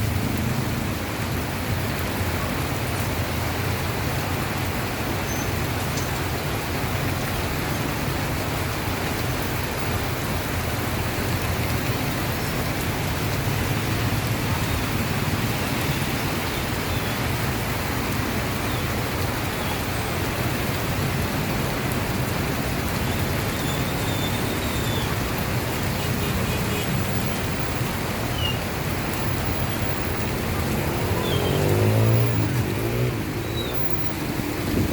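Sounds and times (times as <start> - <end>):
heavy rain: 0.0 - 34.9
road traffic rumble: 0.0 - 34.9.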